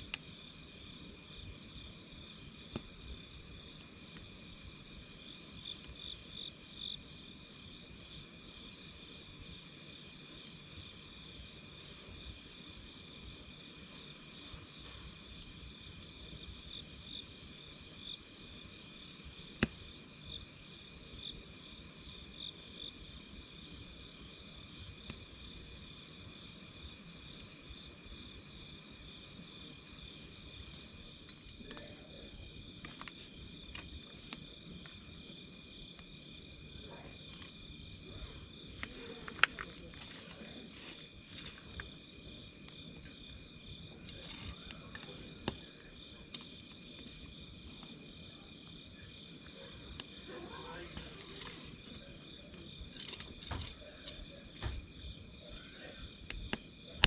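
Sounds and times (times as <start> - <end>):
campfire crackling and popping: 0.0 - 57.0
insects trilling: 0.0 - 57.0.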